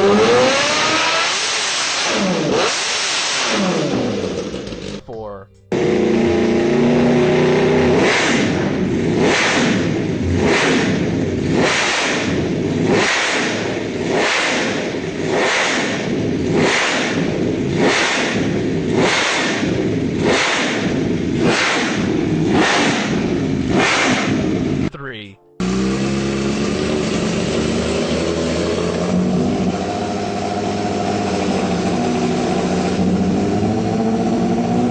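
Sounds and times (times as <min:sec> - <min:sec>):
motorcycle engine revving: 0:00.0 - 0:05.0, 0:05.6 - 0:24.9, 0:25.6 - 0:34.9.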